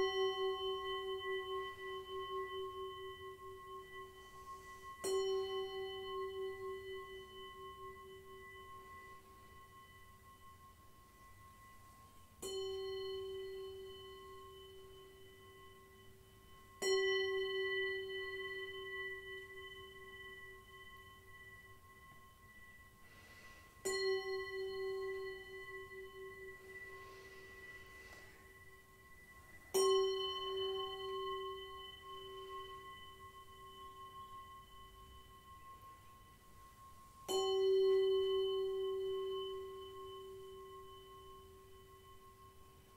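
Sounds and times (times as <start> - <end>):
singing bowl ringing: 0.0 - 42.9.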